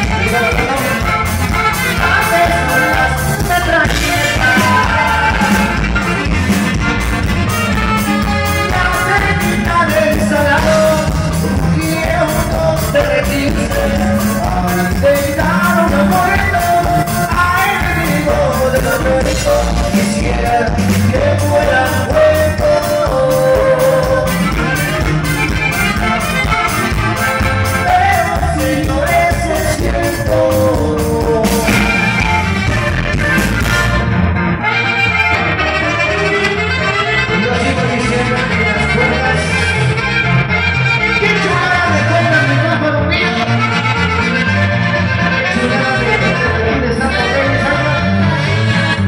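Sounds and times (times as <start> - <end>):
saxophone: 0.0 - 12.4, 15.1 - 49.0
accordion: 0.0 - 49.0
congas: 0.0 - 49.0
drums: 0.0 - 49.0
electric bass: 0.0 - 49.0.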